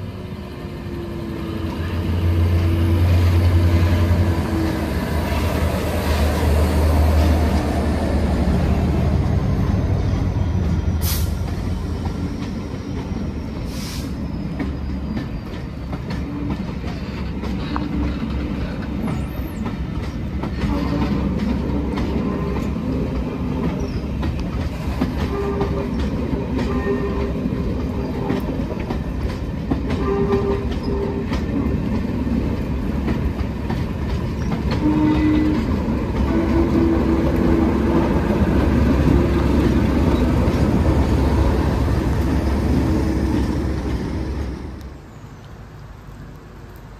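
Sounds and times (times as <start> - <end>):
coaches rolling on rails: 0.0 - 46.9
diesel locomotive engine: 0.0 - 46.9.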